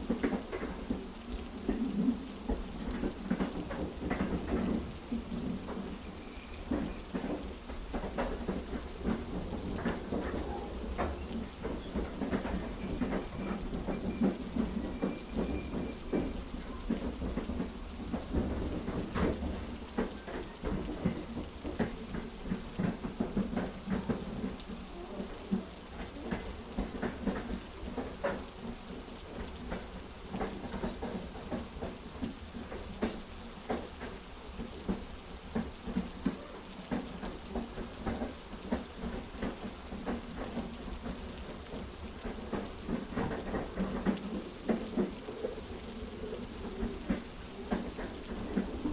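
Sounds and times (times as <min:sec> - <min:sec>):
heavy rain: 0:00.0 - 0:48.9
train rumbling on tracks: 0:00.0 - 0:48.9.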